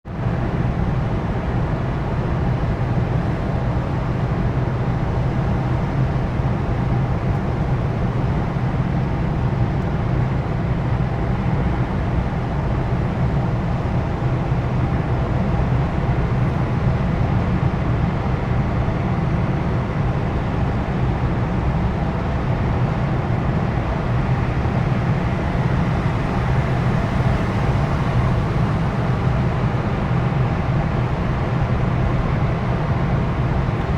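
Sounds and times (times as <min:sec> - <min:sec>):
car driving through tunnel: 0:00.1 - 0:33.9.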